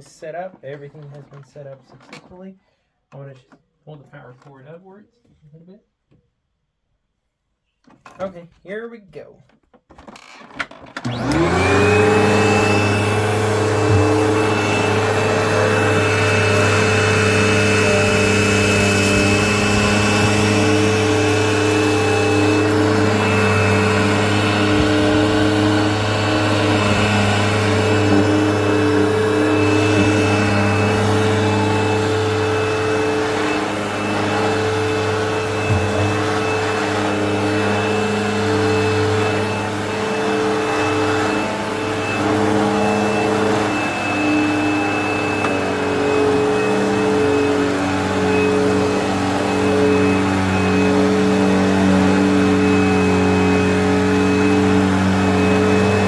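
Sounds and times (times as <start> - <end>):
vacuum cleaner running over rug: 11.0 - 56.0.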